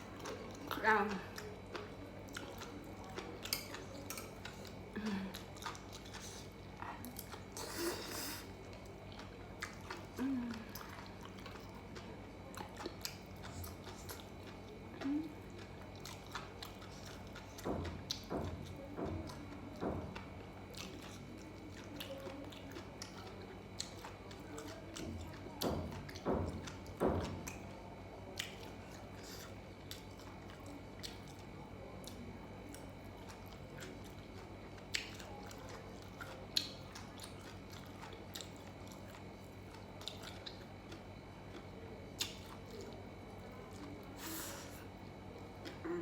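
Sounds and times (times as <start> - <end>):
person chewing food: 0.0 - 27.7, 28.3 - 46.0
faint steady hum: 0.0 - 46.0.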